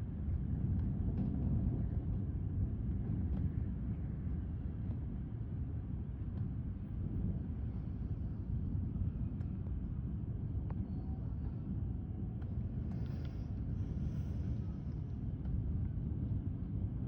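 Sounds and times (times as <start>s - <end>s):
light breeze: 0.0s - 17.0s
low outdoor rumble: 0.0s - 17.0s.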